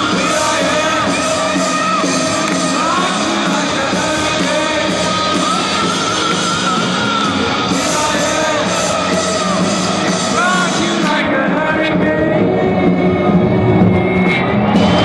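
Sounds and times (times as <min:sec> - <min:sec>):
person singing and yelling: 0:00.0 - 0:13.4
live rock band playing: 0:00.0 - 0:15.0.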